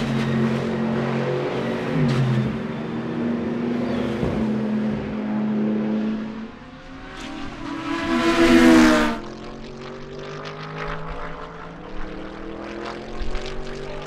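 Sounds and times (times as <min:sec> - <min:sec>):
race car engines: 0:00.0 - 0:14.0
race car passing: 0:00.0 - 0:14.0.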